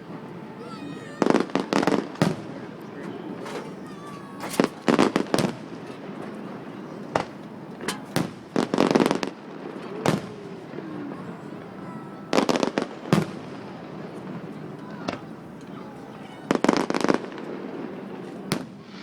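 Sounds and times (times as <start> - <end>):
fireworks bangs and crackles: 0.0 - 15.8, 16.5 - 19.0.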